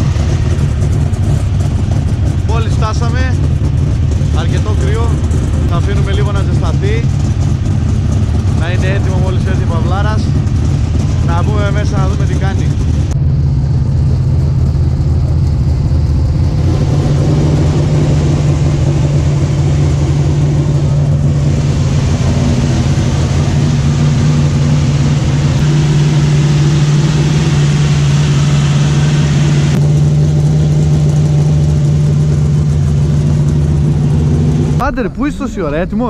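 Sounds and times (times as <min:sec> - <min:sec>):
race car engine idling: 0:00.0 - 0:36.0.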